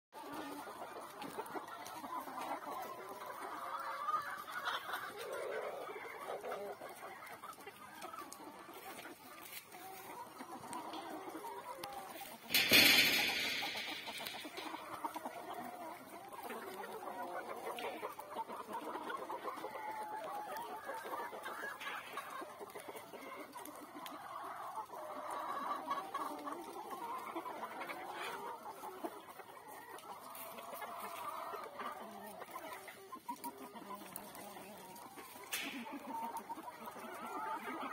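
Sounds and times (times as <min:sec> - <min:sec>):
chickens clucking: 0:00.2 - 0:37.9.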